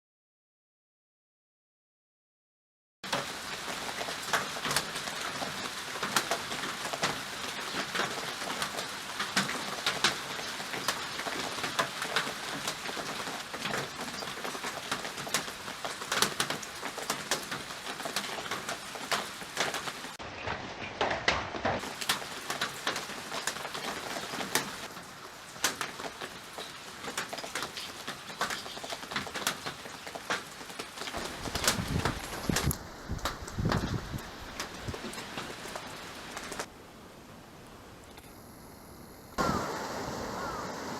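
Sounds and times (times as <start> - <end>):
steady rain falling: 3.0 - 40.9
raindrops tapping on a surface: 3.1 - 36.7.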